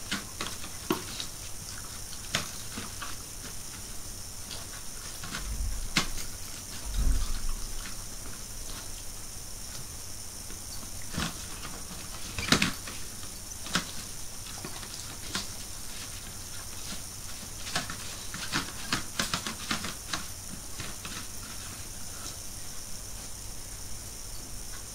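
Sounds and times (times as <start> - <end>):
steady hiss: 0.0 - 24.9.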